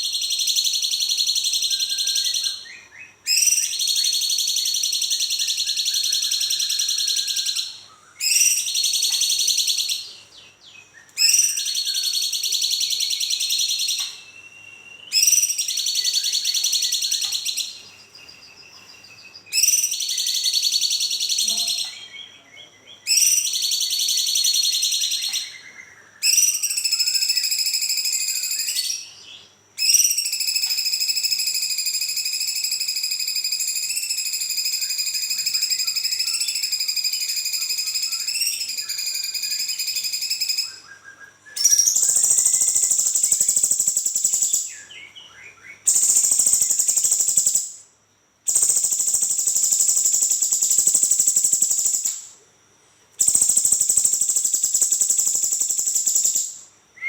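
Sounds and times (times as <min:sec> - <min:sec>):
songbird singing rolling trills: 0:00.0 - 0:47.9, 0:48.5 - 0:52.4, 0:53.2 - 0:57.0.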